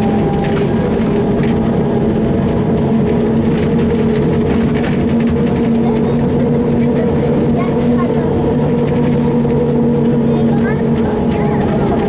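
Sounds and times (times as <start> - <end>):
bus diesel engine running: 0.0 - 12.0
low road rumble: 0.0 - 12.0.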